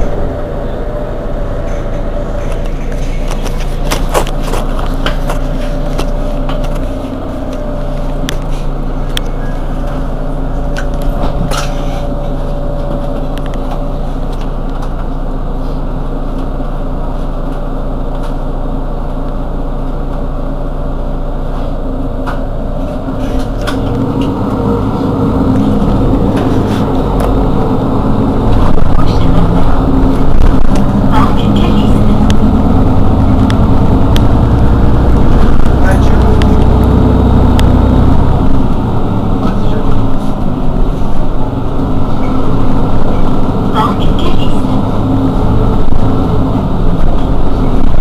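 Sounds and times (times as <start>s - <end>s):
bus engine idling: 0.0s - 48.0s.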